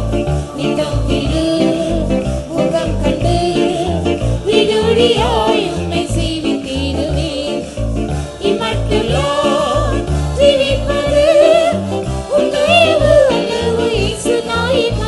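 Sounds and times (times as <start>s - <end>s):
instrumental accompaniment: 0.0s - 15.0s
person singing: 0.0s - 15.0s
repeating bass line: 0.0s - 15.0s.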